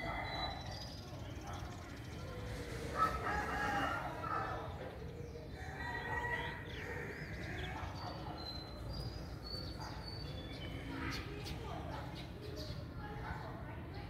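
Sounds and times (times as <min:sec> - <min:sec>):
birds calling: 0:00.0 - 0:13.6.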